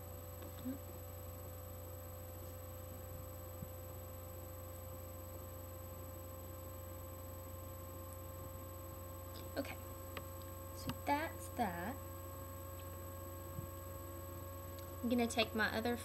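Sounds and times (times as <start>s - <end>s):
faint whine tones: 0.0s - 16.0s
low electrical hum: 0.0s - 16.0s.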